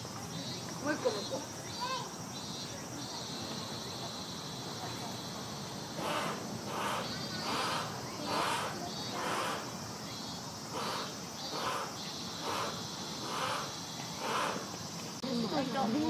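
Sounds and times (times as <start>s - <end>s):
background hiss: 0.0s - 16.0s
insect calls buzzing: 0.0s - 16.0s.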